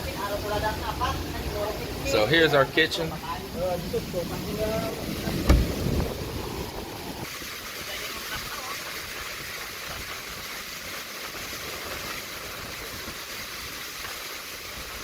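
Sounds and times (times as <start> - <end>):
storm surf and rushing seawater: 0.0 - 15.0.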